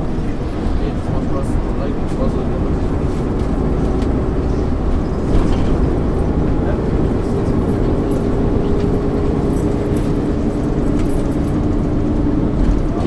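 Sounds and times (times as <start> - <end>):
bus diesel engine and road rumble: 0.0 - 13.0
engine whine: 0.0 - 13.0
light cabin rattling: 0.0 - 13.0.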